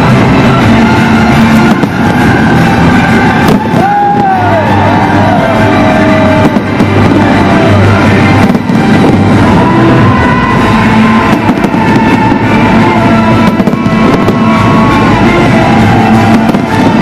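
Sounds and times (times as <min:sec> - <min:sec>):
fireworks going off: 0:00.0 - 0:17.0
loud music: 0:00.0 - 0:17.0
sharp firework bangs: 0:00.0 - 0:17.0.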